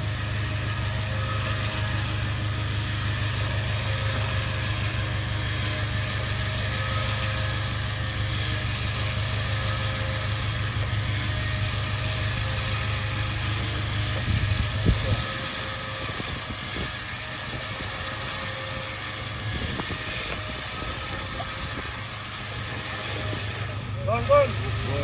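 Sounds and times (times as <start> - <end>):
winch and engine rattling: 0.0 - 25.0.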